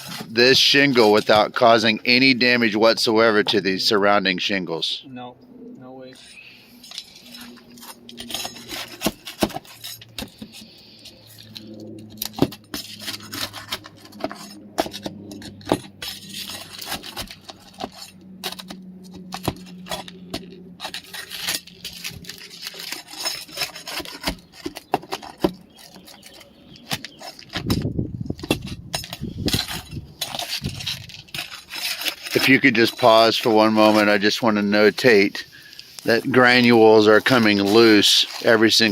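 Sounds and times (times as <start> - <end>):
roof shingle scraping and clicking: 0.0 - 3.9, 6.8 - 38.9.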